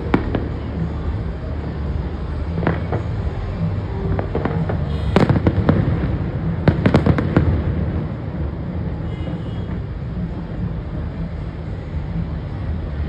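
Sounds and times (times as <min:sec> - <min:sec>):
fireworks bangs and cracks: 0:00.0 - 0:11.1.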